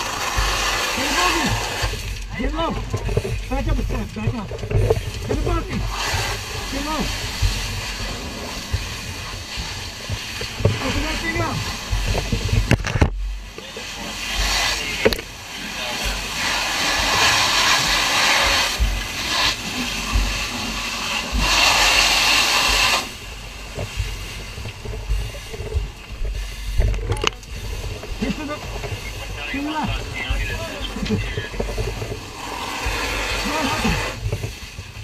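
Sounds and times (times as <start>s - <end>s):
fire hose water hissing: 0.0s - 35.0s.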